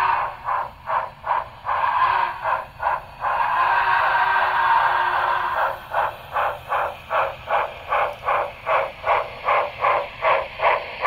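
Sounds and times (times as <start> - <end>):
model train steam chuffs from speaker: 0.0 - 11.0.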